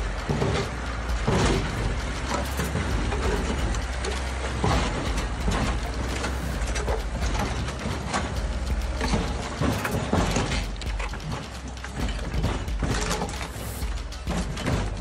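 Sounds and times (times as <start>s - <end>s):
metal pipes crushed with clanks: 0.0s - 15.0s
road roller engine rumbling: 0.0s - 15.0s.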